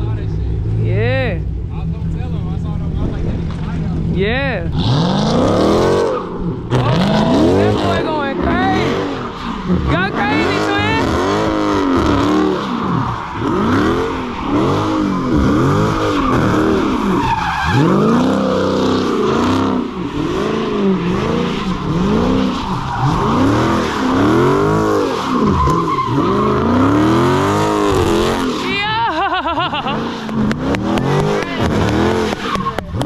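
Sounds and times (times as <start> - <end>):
car engine revving hard: 4.0 - 33.0
tyres spinning on wet pavement: 4.8 - 33.0.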